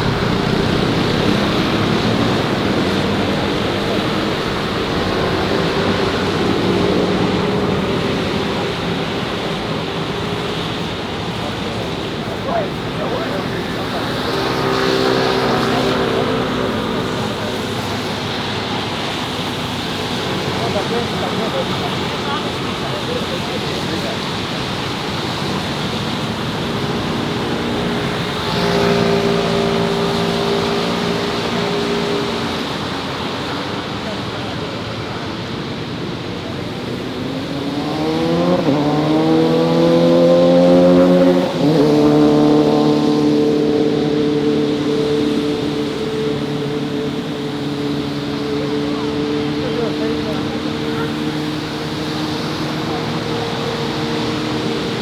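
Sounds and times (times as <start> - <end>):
city traffic passing: 0.0 - 55.0
vehicle engine close by: 0.0 - 55.0.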